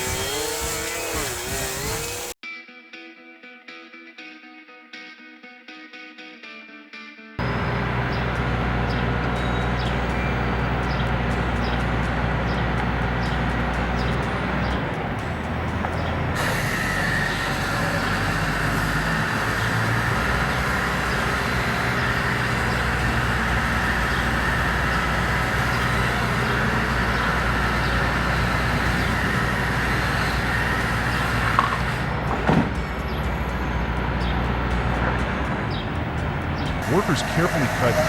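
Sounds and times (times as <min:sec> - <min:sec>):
heavy machine humming: 0:07.4 - 0:38.0.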